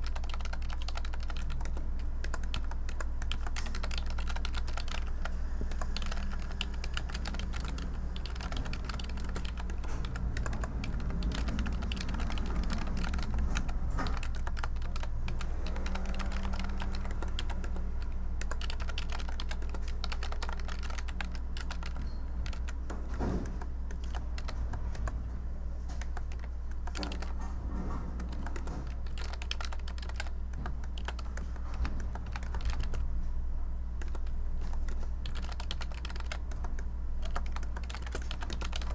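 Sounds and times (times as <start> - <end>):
computer keyboard key clicks: 0.0 - 25.2, 26.0 - 27.4, 28.2 - 33.0, 34.0 - 38.9
steady low hum: 0.0 - 38.9.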